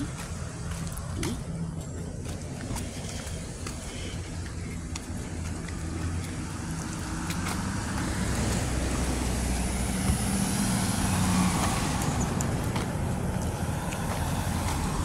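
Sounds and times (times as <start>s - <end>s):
cars driving by: 0.0s - 15.0s.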